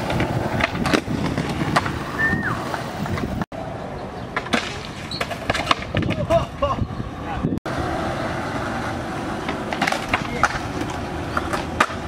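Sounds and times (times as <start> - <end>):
skateboard clicks and knocks: 0.0 - 3.4, 4.2 - 6.6, 7.9 - 12.0
skateboard wheels rolling on concrete: 0.0 - 12.0.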